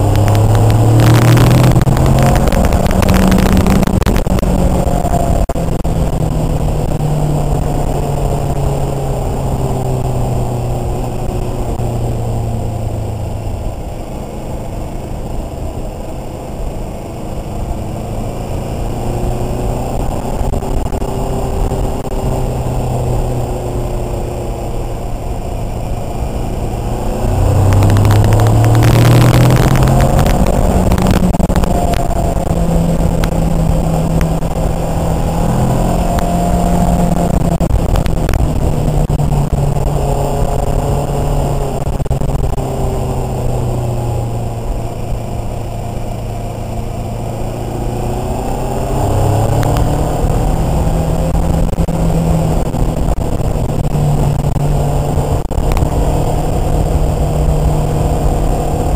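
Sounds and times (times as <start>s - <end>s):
motorcycle engine: 0.0s - 58.9s
wind noise: 0.0s - 58.9s.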